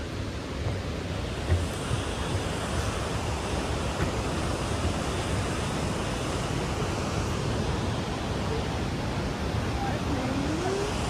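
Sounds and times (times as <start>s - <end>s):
rush of flowing water: 0.0s - 11.0s.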